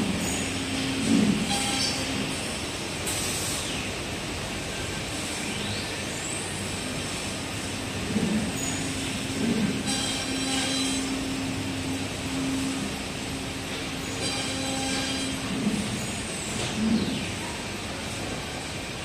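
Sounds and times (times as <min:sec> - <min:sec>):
factory machinery din: 0:00.0 - 0:04.2, 0:06.4 - 0:19.0
steady hum: 0:00.0 - 0:19.0.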